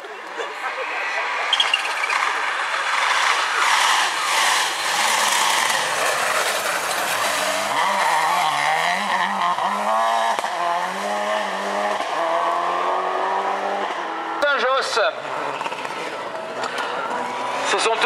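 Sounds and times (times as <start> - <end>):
rally car engine passing: 0.3 - 18.0.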